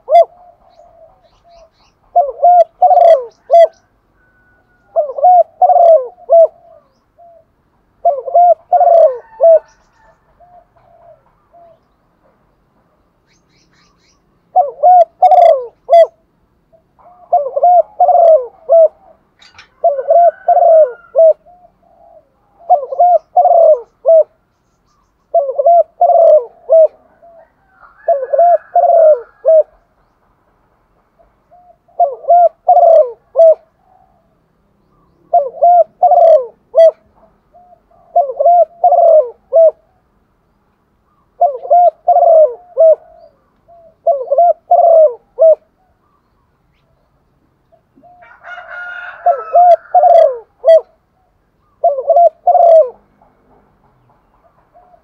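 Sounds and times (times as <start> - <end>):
dove cooing: 0.0 - 12.4, 13.8 - 24.4, 25.3 - 29.8, 31.2 - 40.1, 41.1 - 46.2, 47.7 - 55.0.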